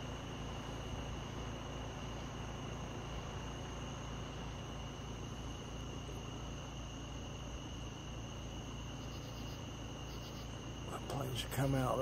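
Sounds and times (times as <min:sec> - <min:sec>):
crickets chirring: 0:00.0 - 0:12.0
low steady hum: 0:00.0 - 0:12.0.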